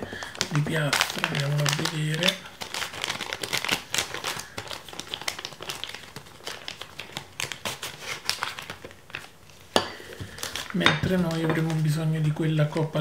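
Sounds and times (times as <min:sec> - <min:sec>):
plastic sleeve crinkling: 0:00.0 - 0:13.0.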